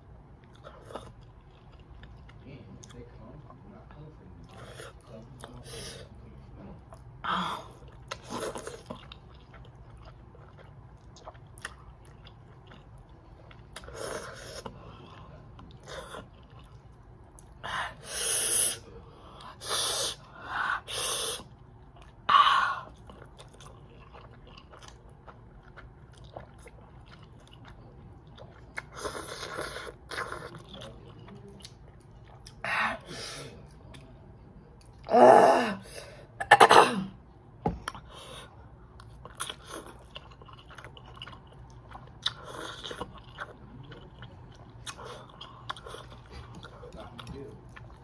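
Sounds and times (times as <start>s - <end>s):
person chewing: 0.3s - 18.0s, 21.4s - 32.6s, 37.7s - 48.0s.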